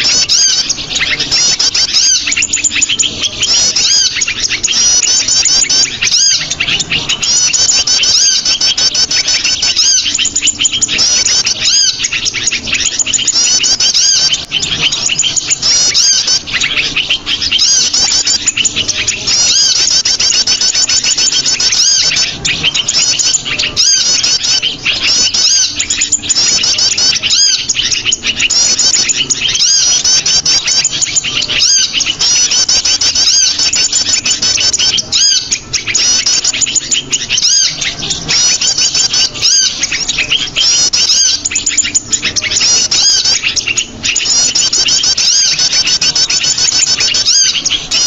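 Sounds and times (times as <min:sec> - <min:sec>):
songbird flock chirping: 0:00.0 - 0:48.0.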